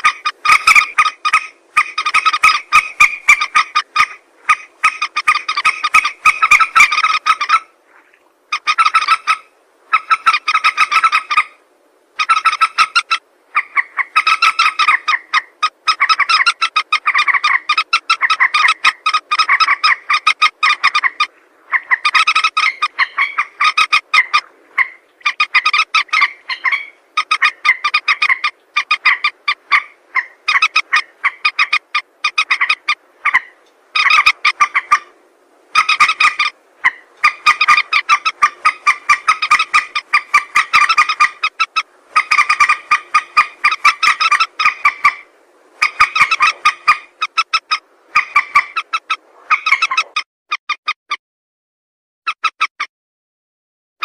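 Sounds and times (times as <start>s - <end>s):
moorhen clicking calls: 0.0s - 7.8s, 8.5s - 11.6s, 12.2s - 51.0s, 52.3s - 52.7s.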